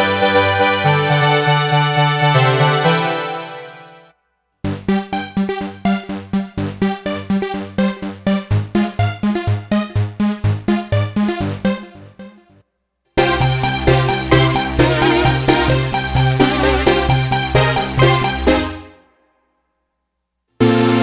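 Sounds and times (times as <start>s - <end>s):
plucky synthesizer notes: 0.0s - 4.0s, 4.7s - 12.6s, 13.2s - 19.0s, 20.6s - 21.0s.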